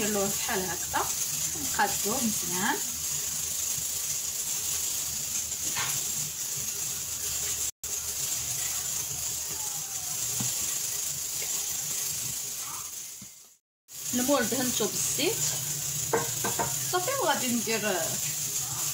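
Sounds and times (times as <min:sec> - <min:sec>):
steady high hiss: 0:00.0 - 0:18.9.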